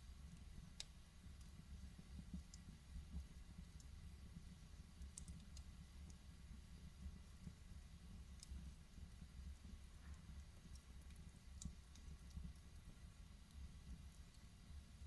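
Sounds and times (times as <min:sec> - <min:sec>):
wood fire crackling: 0:00.0 - 0:15.0
sharp pops and ticks: 0:00.2 - 0:06.2, 0:06.8 - 0:14.6.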